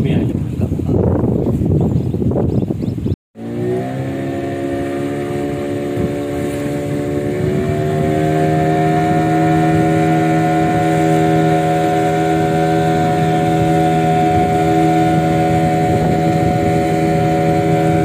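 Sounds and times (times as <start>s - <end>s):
motor boat engine: 3.4s - 18.0s.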